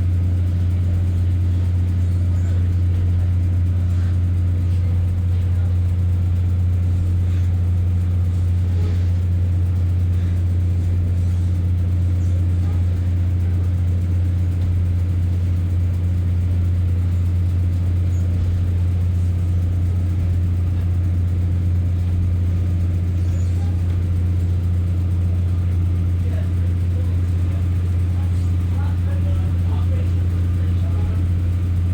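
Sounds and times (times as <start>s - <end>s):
diesel railbus drone: 0.0s - 31.9s.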